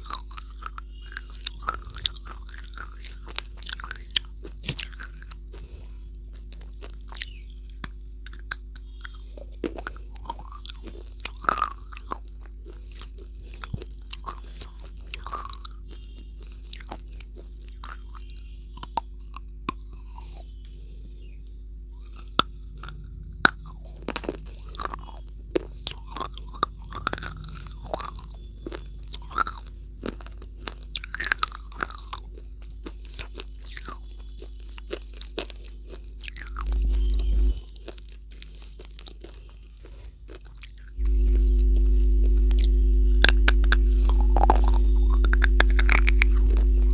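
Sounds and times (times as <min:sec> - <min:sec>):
crunchy chewing and biting: 0:00.0 - 0:46.9
low electrical hum: 0:00.0 - 0:46.9.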